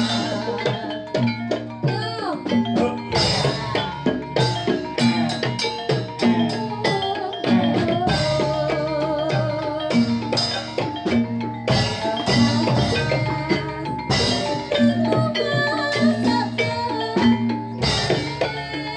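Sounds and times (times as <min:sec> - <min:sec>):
hand drums: 0:00.0 - 0:18.9
struck metallophones melody: 0:00.0 - 0:18.9.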